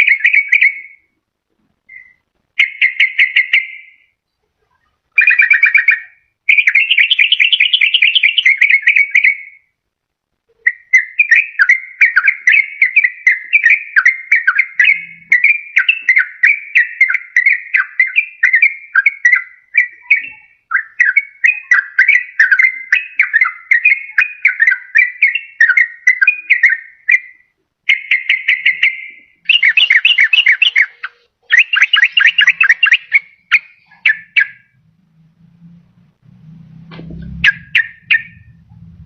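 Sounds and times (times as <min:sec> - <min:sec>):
bird chattering song: 0:00.0 - 0:01.1, 0:01.9 - 0:09.6, 0:10.5 - 0:34.9, 0:37.0 - 0:39.0.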